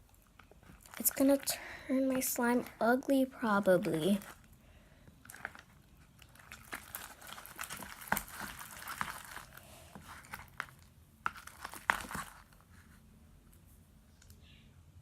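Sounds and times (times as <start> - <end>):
slime squelching: 0.0 - 12.9.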